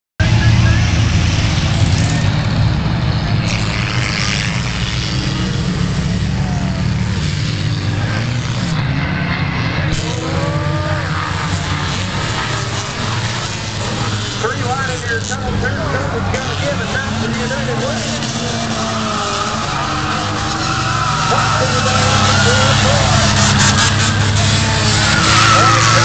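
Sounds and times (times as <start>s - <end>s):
racing car engines rumbling: 0.2s - 26.0s.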